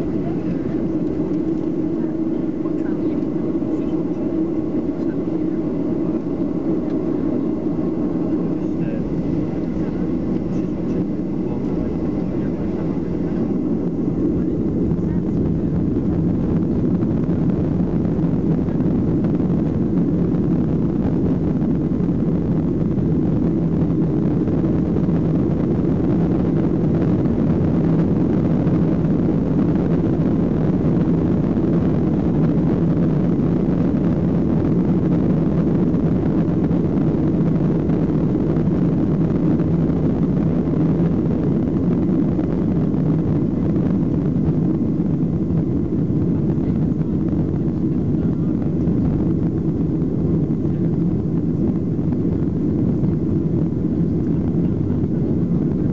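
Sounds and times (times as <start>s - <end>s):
jet engines roaring: 0.0s - 55.9s
takeoff roll rumble on runway: 0.0s - 55.9s.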